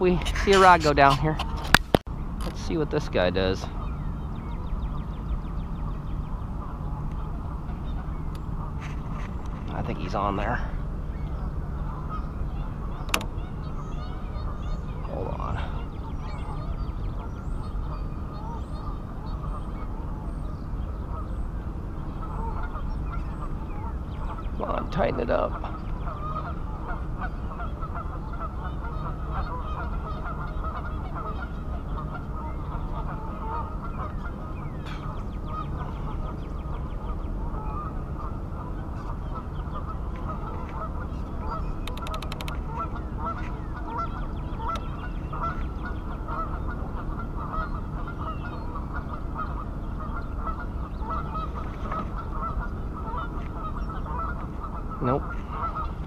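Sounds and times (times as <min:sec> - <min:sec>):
geese honking: 0:00.0 - 0:01.8, 0:02.6 - 0:56.0
low rumble: 0:00.0 - 0:56.0.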